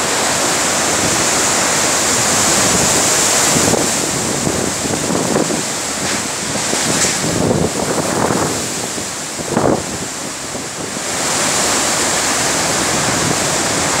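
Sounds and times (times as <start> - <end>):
strong wind through trees: 0.0 - 14.0
wind buffeting microphone: 0.0 - 14.0.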